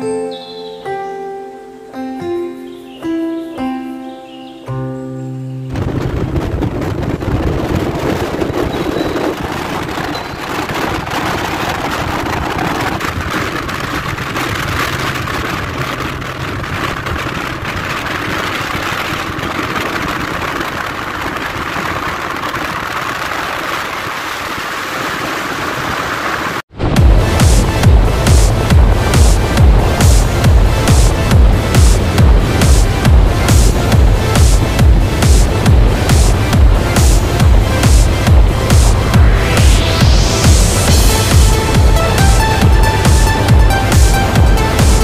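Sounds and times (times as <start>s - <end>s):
road and wind noise: 0.0s - 45.0s
motorcycle engine running: 5.8s - 24.2s, 25.9s - 45.0s.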